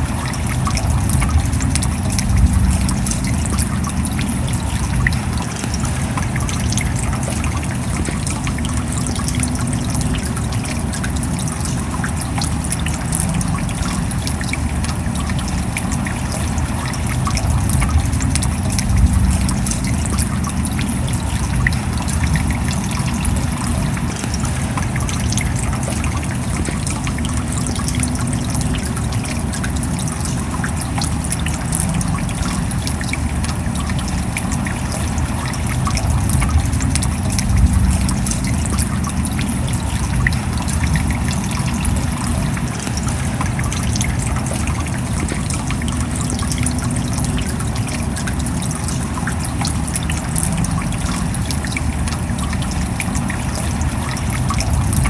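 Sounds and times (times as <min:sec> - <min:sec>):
steady rain: 0:00.0 - 0:55.0
water trickling and dripping: 0:00.0 - 0:55.0.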